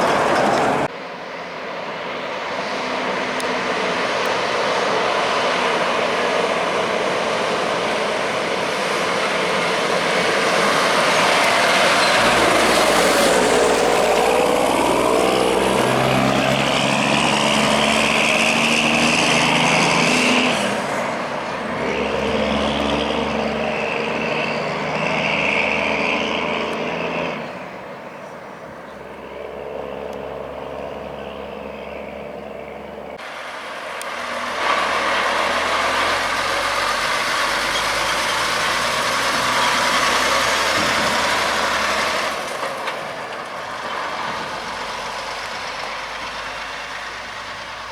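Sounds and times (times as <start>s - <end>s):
heavy truck driving past: 0.0s - 28.3s, 28.9s - 47.9s
vehicle approaching: 0.0s - 47.9s.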